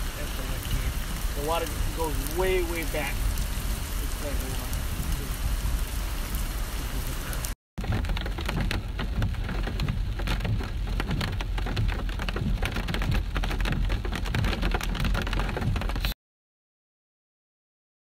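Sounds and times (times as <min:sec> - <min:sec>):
rain falling: 0:00.0 - 0:16.2.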